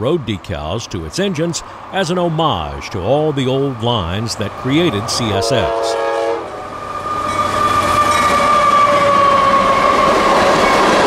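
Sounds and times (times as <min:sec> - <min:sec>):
diesel locomotives passing: 0:00.0 - 0:11.0.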